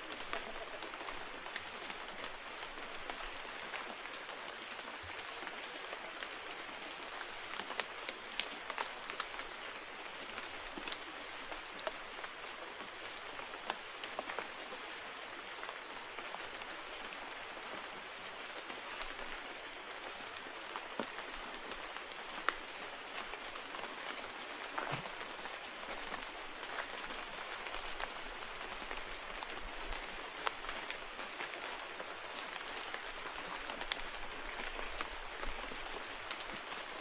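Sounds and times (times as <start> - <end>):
steady rain hissing: 0.0 - 37.0.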